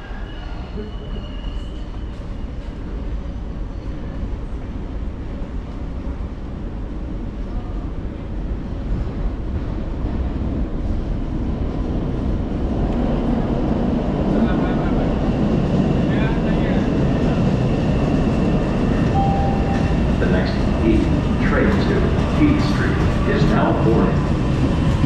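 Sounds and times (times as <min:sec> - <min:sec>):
subway train rumbling in tunnel: 0:00.0 - 0:25.0.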